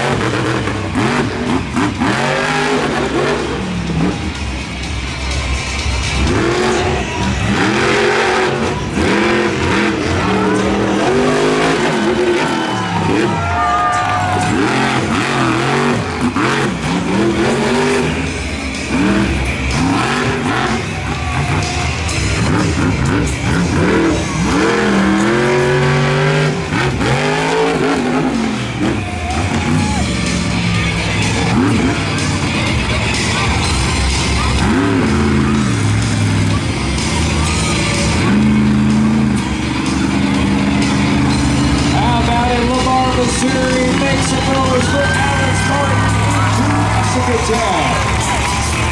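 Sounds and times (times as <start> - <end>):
monster truck engine revving: 0.0 - 48.9.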